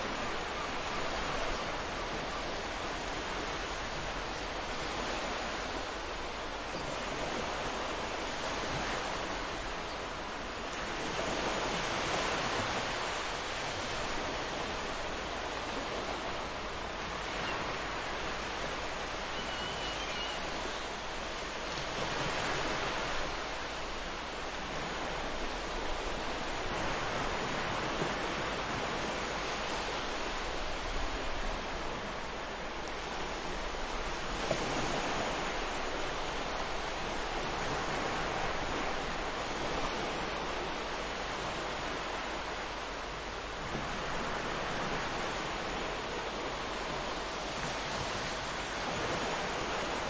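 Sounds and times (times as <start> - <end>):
ocean waves on beach: 0.0 - 50.0.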